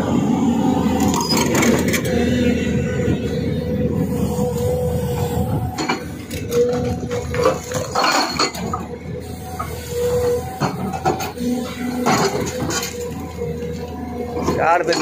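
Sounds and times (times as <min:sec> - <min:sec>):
excavator machine hum: 0:00.0 - 0:15.0.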